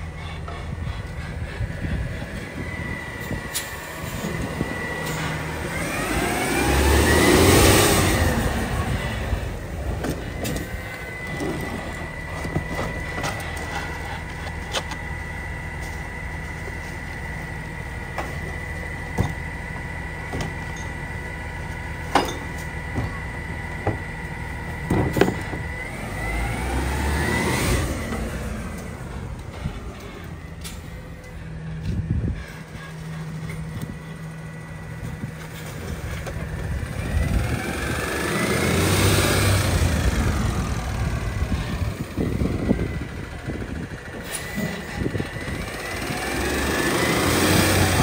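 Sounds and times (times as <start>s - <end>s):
garbage truck idling: 0.0s - 48.0s.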